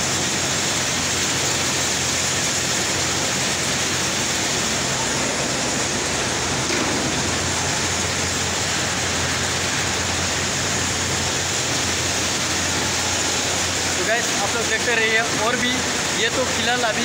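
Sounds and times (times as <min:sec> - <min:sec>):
machinery low hum: 0:00.0 - 0:17.0
processing machinery hiss: 0:00.0 - 0:17.0.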